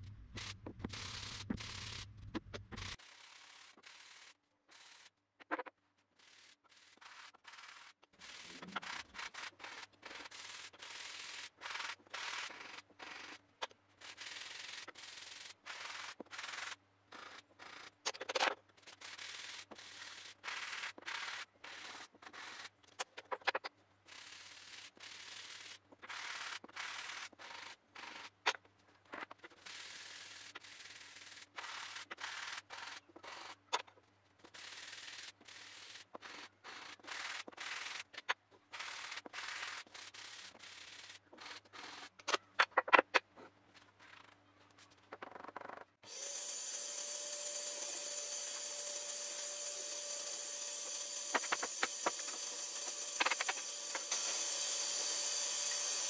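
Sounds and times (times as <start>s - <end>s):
wood scratching on sandpaper: 0.3s - 2.1s, 2.7s - 5.1s, 6.2s - 13.4s, 14.0s - 17.9s, 18.9s - 22.7s, 24.1s - 28.4s, 29.4s - 33.8s, 34.4s - 42.3s, 46.1s - 56.0s.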